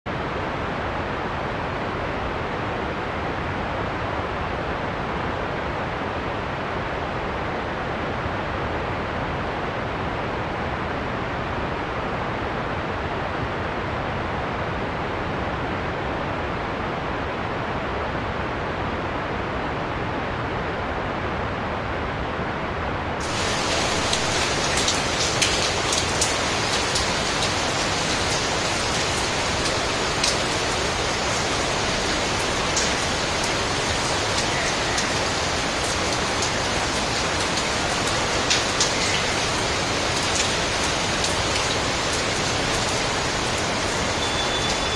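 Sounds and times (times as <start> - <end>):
heavy rain: 0.1 - 44.9.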